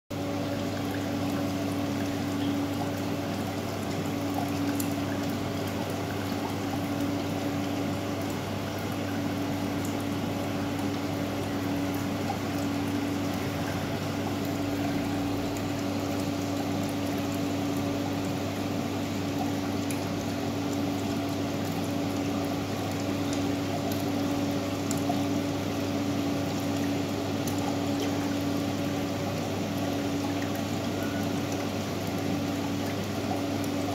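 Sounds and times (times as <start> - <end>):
water pump hum: 0.1 - 33.9.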